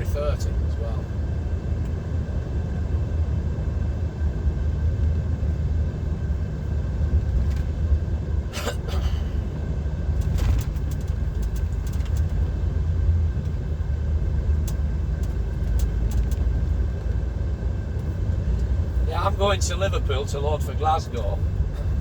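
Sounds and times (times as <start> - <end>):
diesel engine and road rumble: 0.0 - 22.0.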